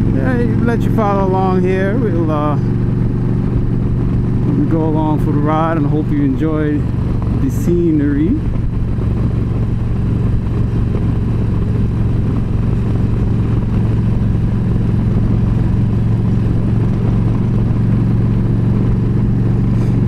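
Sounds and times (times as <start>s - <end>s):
motorcycle engine cruising: 0.0s - 20.0s
road noise: 0.0s - 20.0s.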